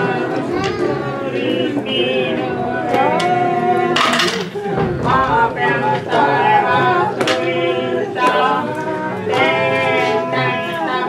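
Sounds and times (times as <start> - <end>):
voices singing long notes: 0.0 - 11.0.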